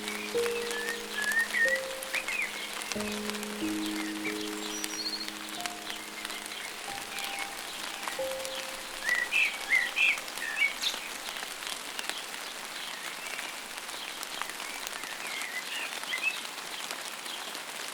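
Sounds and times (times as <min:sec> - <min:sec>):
birds chirping: 0:00.0 - 0:16.8
rain pattering: 0:00.0 - 0:17.9.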